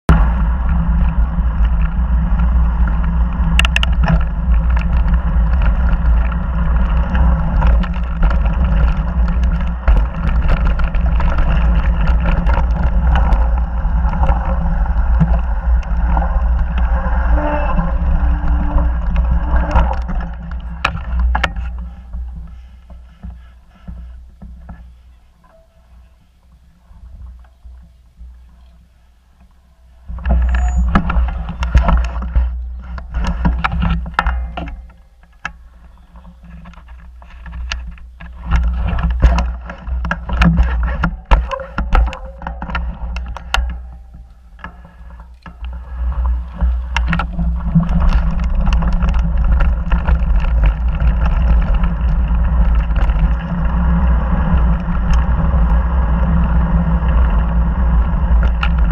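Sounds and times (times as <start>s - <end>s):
wind buffeting microphone: 0.1s - 29.3s, 29.9s - 58.9s
bike rattling and knocking: 0.1s - 58.9s.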